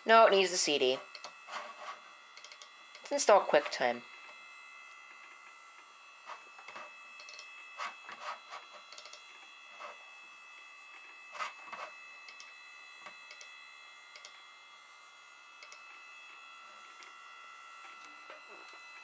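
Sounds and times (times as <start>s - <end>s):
computer high whine: 0.0s - 19.0s.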